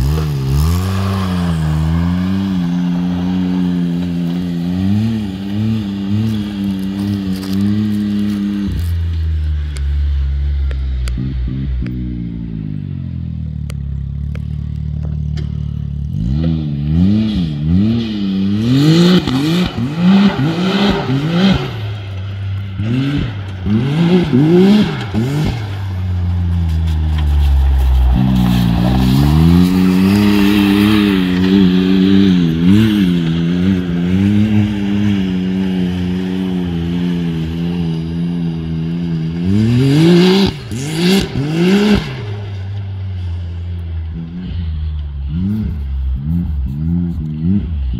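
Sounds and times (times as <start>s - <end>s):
engine revving: 0.0s - 47.9s.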